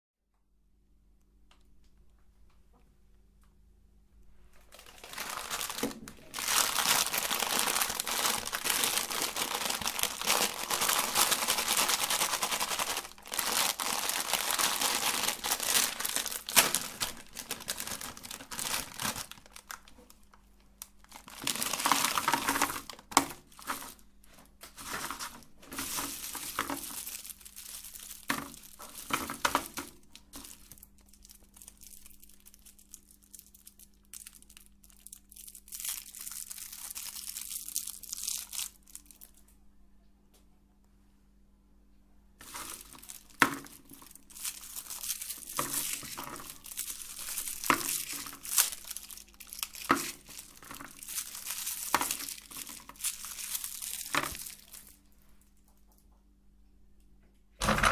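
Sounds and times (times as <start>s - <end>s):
plastic packaging crinkling: 4.5s - 39.5s, 42.4s - 55.9s.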